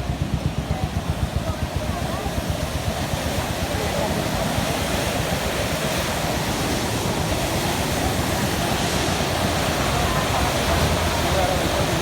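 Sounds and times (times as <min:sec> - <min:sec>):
river floodwater rushing: 0:00.7 - 0:12.0.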